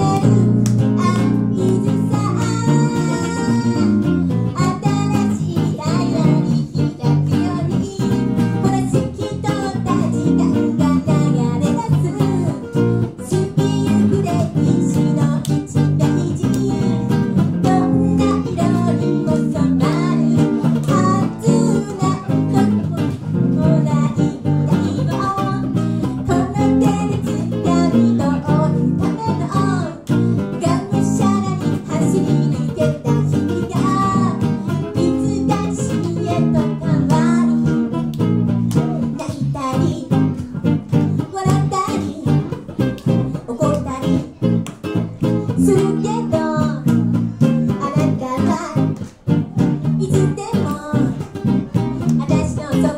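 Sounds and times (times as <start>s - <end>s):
acoustic guitars playing: 0.0s - 52.9s
woman singing: 0.0s - 52.9s.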